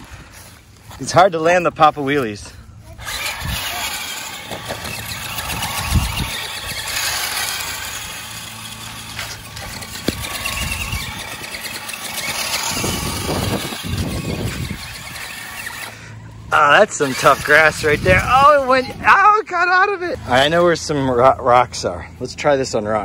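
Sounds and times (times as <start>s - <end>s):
toy truck electric motors whirring: 0.0s - 19.4s.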